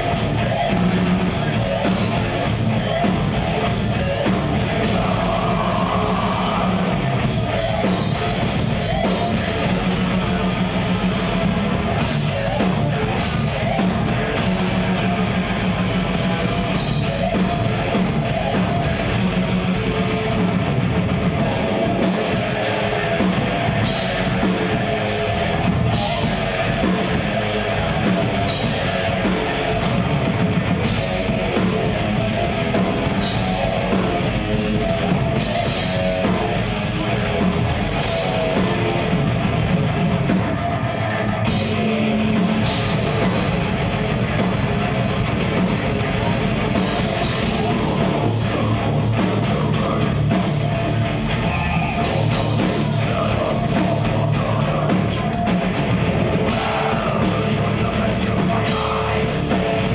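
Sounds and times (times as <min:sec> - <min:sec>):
death metal band playing: 0:00.0 - 0:59.9.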